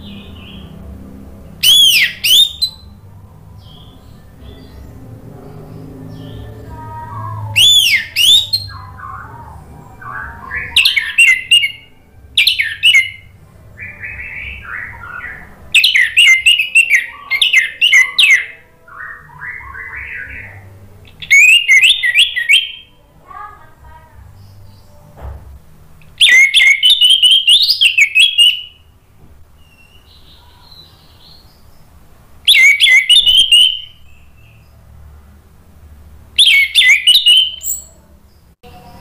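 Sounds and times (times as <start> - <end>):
thrush singing: 0.0 - 29.0, 29.6 - 39.0
faint low hum: 0.0 - 39.0.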